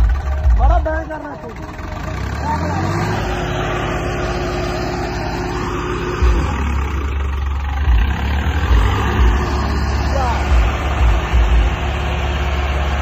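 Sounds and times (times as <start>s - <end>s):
tractor engine running: 0.0s - 13.0s
deep low rumble surges: 1.9s - 13.0s.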